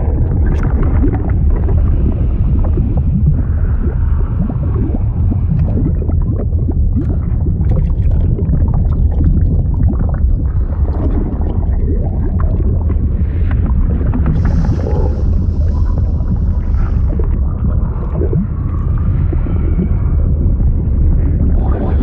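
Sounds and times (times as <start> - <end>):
liquid bubbling and gurgling: 0.0 - 22.0.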